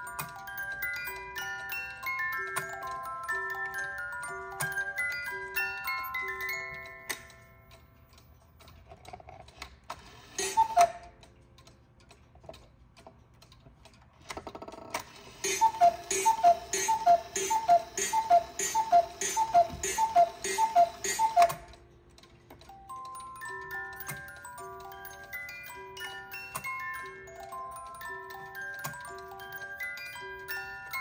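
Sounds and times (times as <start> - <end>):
cuckoo clock calling: 0.0 - 11.8, 14.3 - 31.0
faint clock ticking: 0.0 - 31.0
clock mechanism whirring: 6.2 - 31.0.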